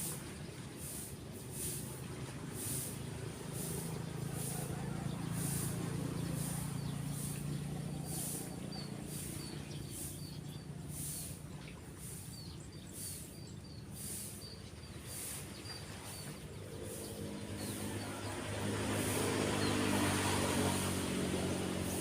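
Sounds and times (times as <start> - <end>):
small birds chirping: 0.0 - 22.0
passing vehicle engine: 0.8 - 12.3, 15.0 - 22.0.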